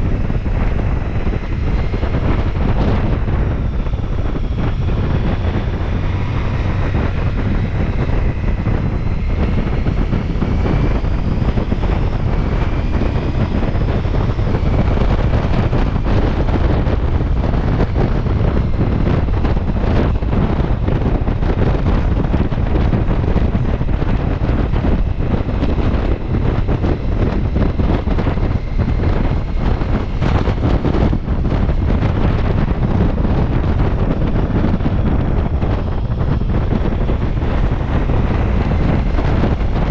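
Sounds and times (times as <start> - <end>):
faint motorcycle engine: 0.0 - 39.9
wind buffeting microphone: 0.0 - 39.9.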